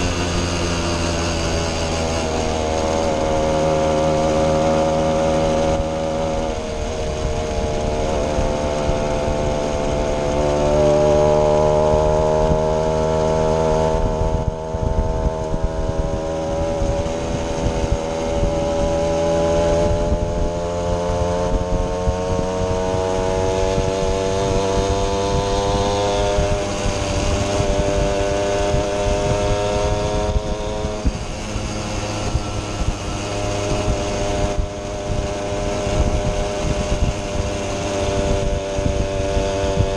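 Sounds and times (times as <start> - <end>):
moped engines running: 0.0 - 39.9.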